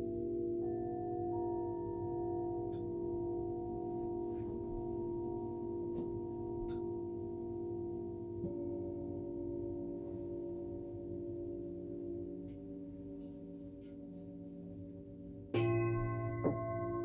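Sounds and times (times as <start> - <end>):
singing bowl struck: 0.0 - 14.1, 15.5 - 17.0
singing bowls ringing: 0.0 - 17.0.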